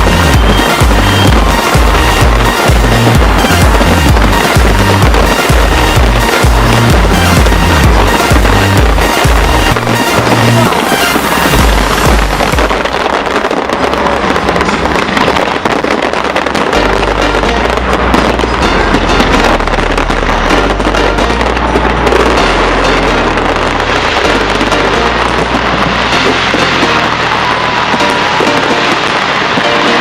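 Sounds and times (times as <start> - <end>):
music with bass line: 0.0 - 13.2, 16.6 - 30.0
fireworks crackling and bursting: 0.0 - 30.0.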